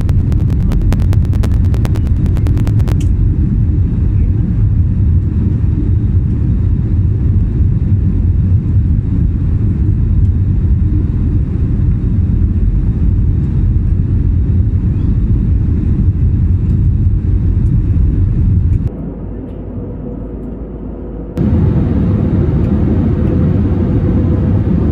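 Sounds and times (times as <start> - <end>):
airliner jet engines rumbling: 0.0 - 24.9.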